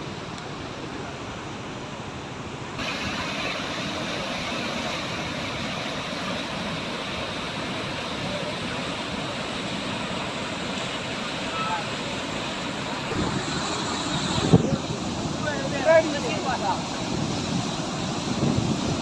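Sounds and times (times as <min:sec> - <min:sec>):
waterfall rushing: 0:02.8 - 0:19.0.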